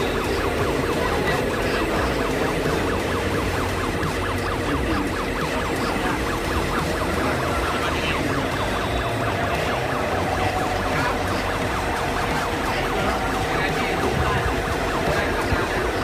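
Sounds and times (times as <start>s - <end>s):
warbling siren-like tone: 0.0s - 16.0s.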